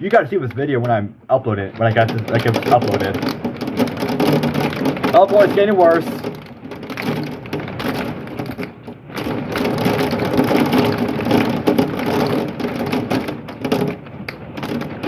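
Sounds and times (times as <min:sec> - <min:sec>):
hail clattering: 0:00.0 - 0:15.0
heavy rain: 0:01.7 - 0:15.0.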